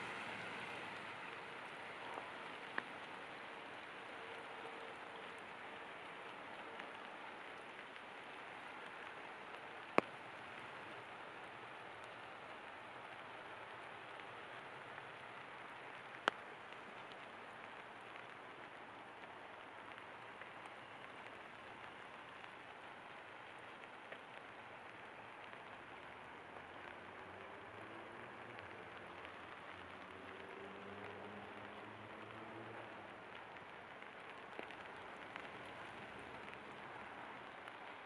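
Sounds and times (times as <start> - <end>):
rain pattering: 0.0 - 38.0.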